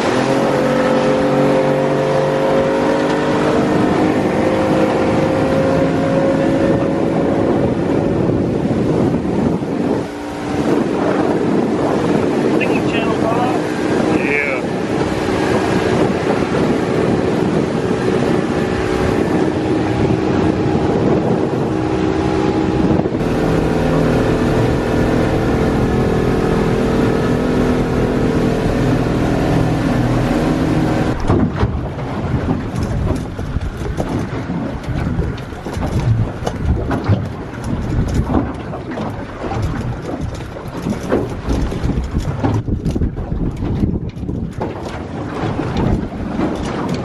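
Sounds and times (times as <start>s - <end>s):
boat motor running: 0.0s - 47.0s
water rushing: 0.0s - 47.0s
wind buffeting microphone: 0.0s - 47.0s.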